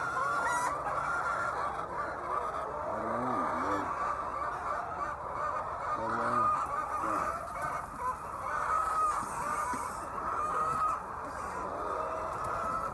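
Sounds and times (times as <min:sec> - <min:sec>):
drawn-out hen calls: 0:00.0 - 0:12.9
hens clucking: 0:00.0 - 0:12.9.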